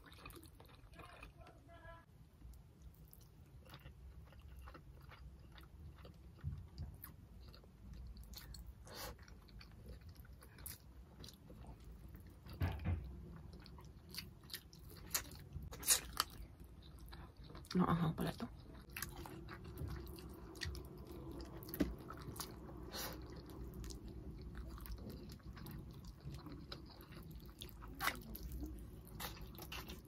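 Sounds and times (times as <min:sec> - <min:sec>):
wet chewing sounds: 0:00.0 - 0:01.5, 0:02.4 - 0:30.0.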